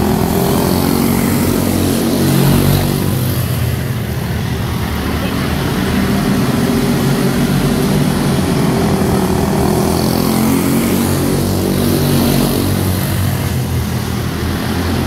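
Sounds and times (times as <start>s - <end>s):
race car engines at speed: 0.0s - 15.0s.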